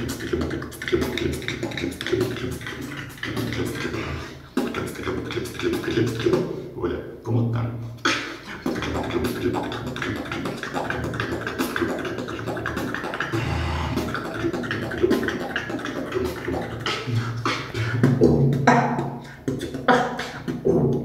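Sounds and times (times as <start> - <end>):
vocal beatboxing: 0.0 - 21.0.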